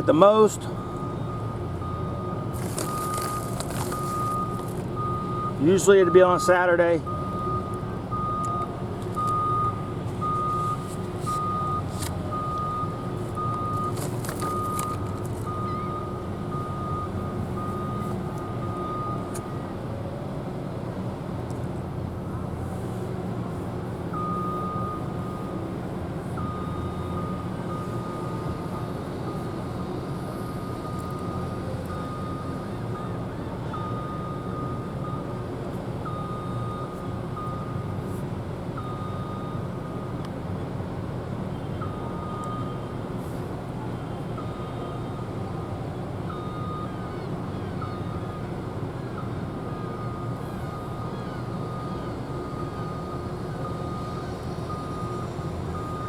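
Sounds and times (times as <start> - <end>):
reversing alarm beeping: 0.0 - 19.4, 24.1 - 25.7, 26.3 - 35.4, 36.0 - 38.1, 38.8 - 40.2, 41.7 - 43.1, 44.4 - 56.0
low engine rumble: 0.0 - 56.0.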